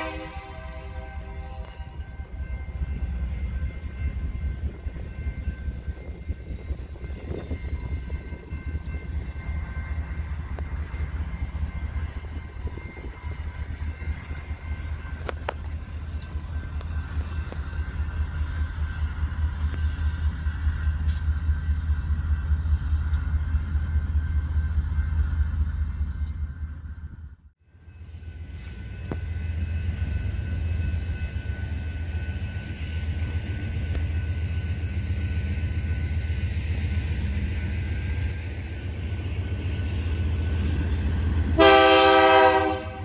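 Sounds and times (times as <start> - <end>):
train rumbling past: 0.0 - 43.0.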